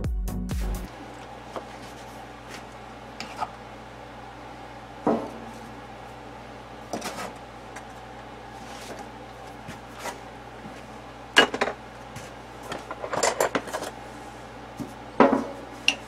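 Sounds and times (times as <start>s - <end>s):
steady hum: 0.8s - 16.0s.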